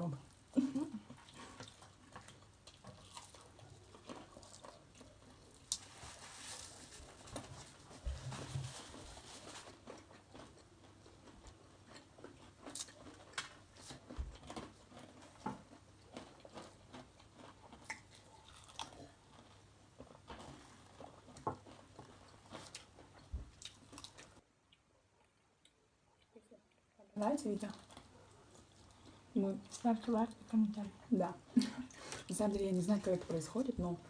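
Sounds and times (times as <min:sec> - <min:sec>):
chewing crispy chicken: 0:00.2 - 0:32.3.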